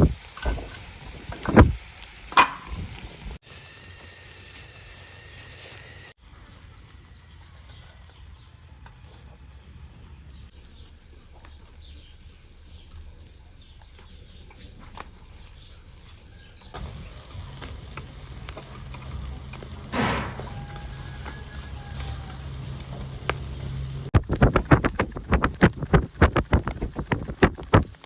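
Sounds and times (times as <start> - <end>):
fish sizzling on charcoal: 0.0 - 28.0.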